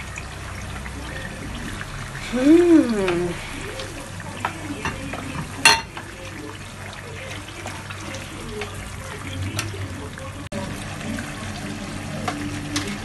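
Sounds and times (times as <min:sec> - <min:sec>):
stew bubbling: 0:00.0 - 0:13.0.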